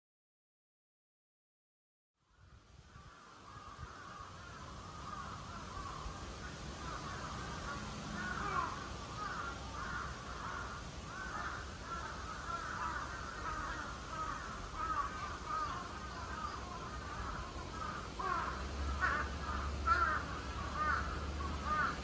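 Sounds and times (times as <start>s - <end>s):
birds calling: 3.0s - 22.0s.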